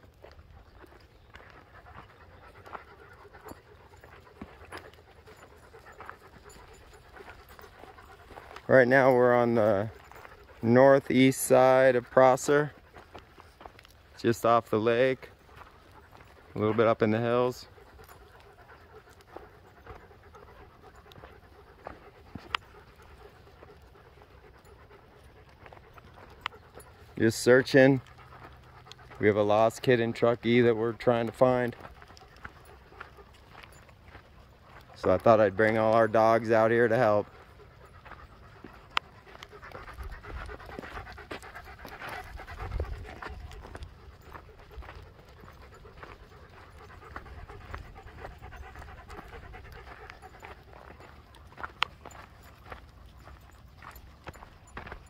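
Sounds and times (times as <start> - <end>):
dogs panting: 0.0 - 55.0.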